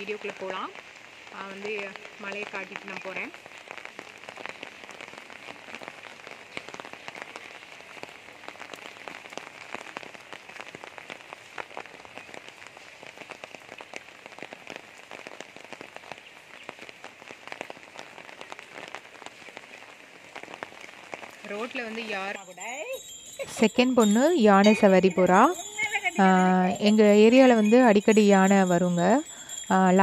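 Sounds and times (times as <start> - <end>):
raindrops hitting close by: 0.0 - 30.0
steady rain hiss: 0.0 - 30.0.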